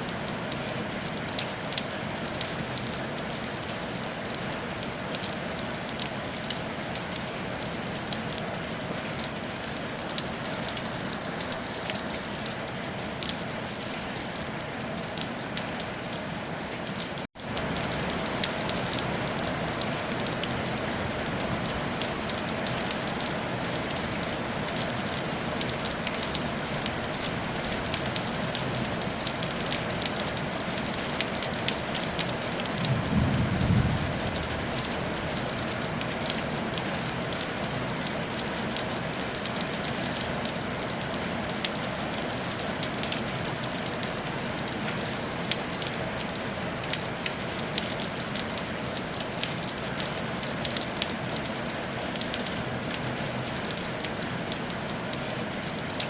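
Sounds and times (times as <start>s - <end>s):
rain on a tile roof: 0.0s - 56.0s.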